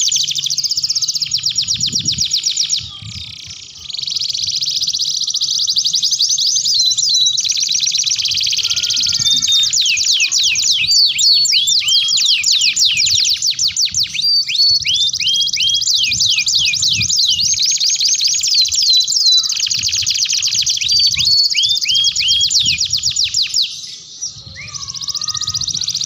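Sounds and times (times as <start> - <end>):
canaries singing trills: 0.0 - 26.0.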